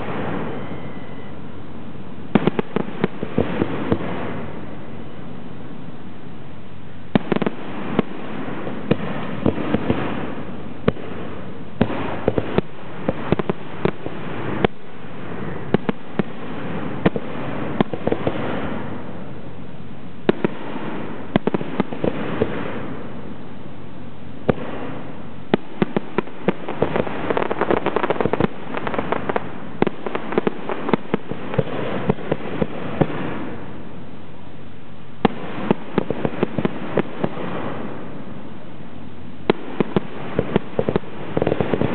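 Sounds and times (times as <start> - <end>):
fireworks bursting with sharp bangs: 0.0 - 34.2, 35.1 - 41.9.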